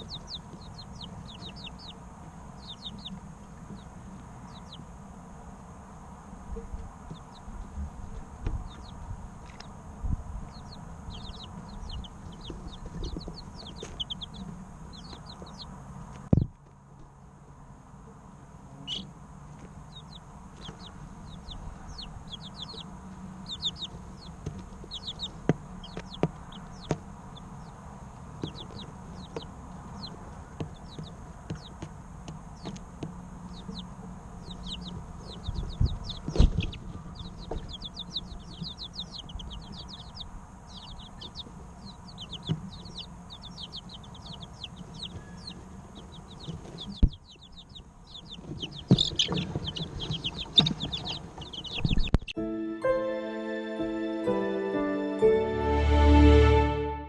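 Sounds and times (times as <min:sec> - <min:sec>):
chicks peeping: 0:00.0 - 0:17.1, 0:18.7 - 0:52.9.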